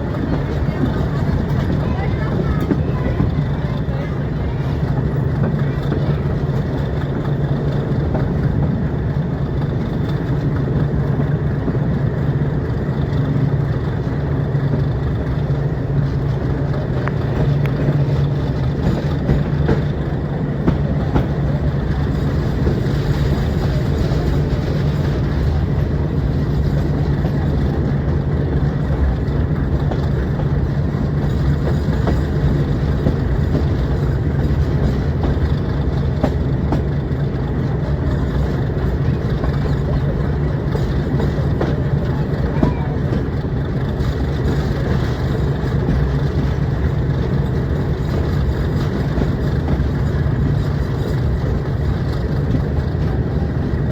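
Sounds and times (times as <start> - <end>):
diesel locomotive engine drone: 0.0 - 53.9
train rumble: 0.0 - 53.9.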